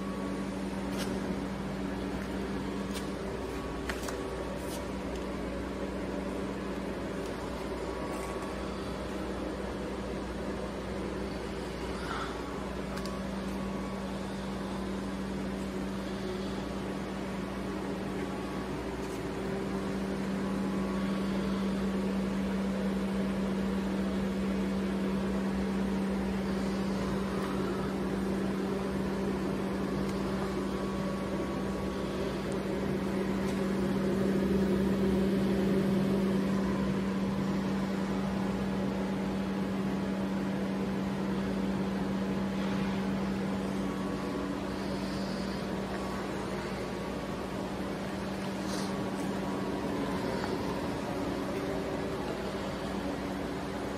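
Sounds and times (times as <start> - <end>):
electric machinery hum: 0.0 - 53.9.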